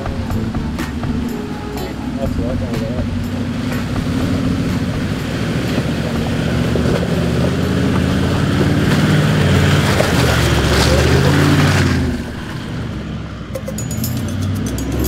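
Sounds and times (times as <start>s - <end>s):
water and mud splashing: 0.0s - 13.6s
engine labouring: 0.0s - 15.0s.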